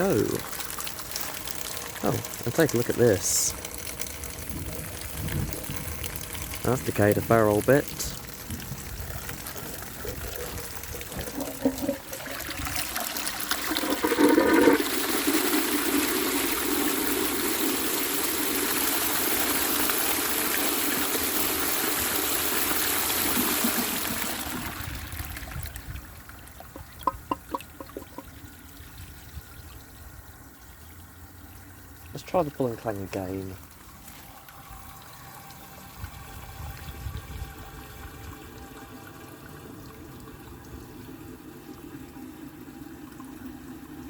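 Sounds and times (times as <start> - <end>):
water trickling and dripping: 0.0 - 15.2, 15.8 - 44.0
water rushing down cistern: 0.0 - 30.5, 31.2 - 44.0.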